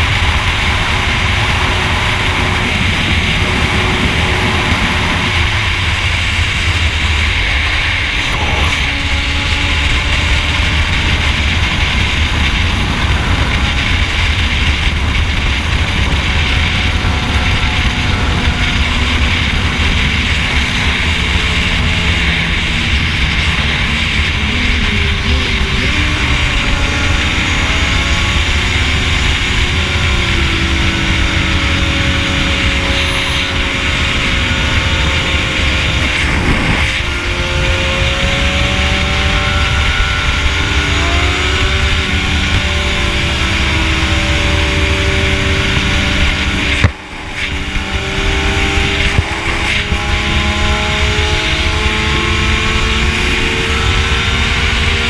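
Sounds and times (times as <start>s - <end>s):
motorcycle engine drone: 0.0s - 55.0s
wind rush on microphone: 0.0s - 55.0s.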